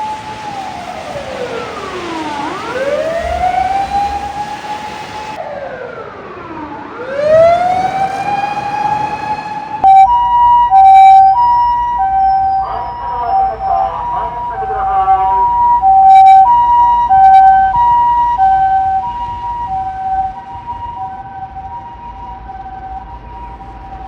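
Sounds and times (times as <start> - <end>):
siren wailing: 0.0 - 24.0
two-tone hi-lo siren: 0.0 - 24.0.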